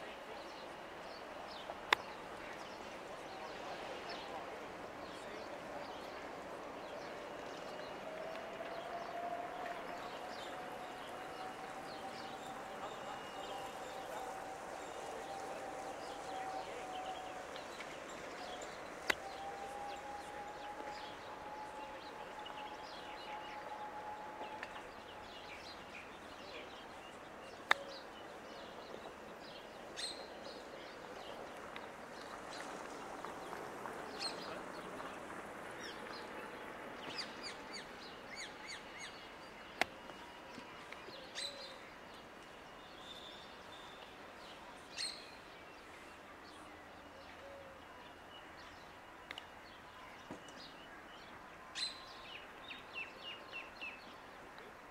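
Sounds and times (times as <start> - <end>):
faint steady drone: 0.0 - 54.9.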